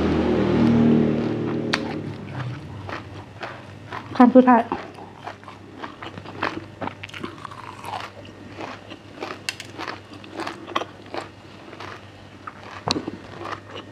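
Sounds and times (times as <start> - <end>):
crunchy chewing: 1.2 - 13.9.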